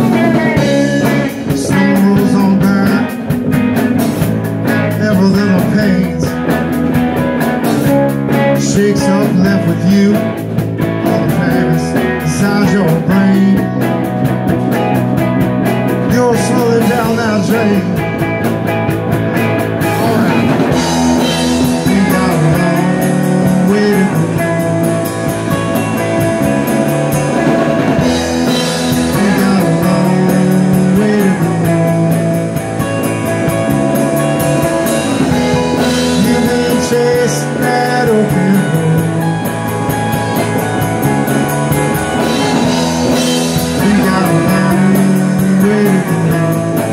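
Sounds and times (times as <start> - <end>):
person singing: 0.0 - 3.4, 4.6 - 6.7, 7.9 - 14.9, 15.7 - 18.4, 19.8 - 26.2, 27.9 - 33.2, 35.2 - 46.9
drum kit: 0.0 - 46.9
electric bass: 0.0 - 46.9
electric guitars: 0.0 - 46.9.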